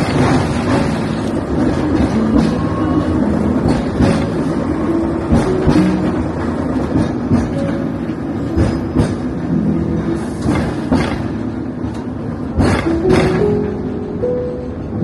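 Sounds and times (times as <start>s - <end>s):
tram rumbling on track: 0.0s - 15.0s
wheels clacking over rail joints: 0.0s - 15.0s.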